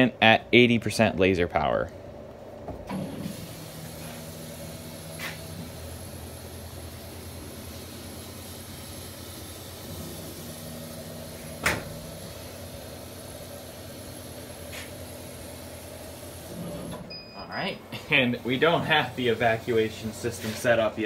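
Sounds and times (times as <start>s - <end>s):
laser cutter machine hum: 2.9s - 21.0s.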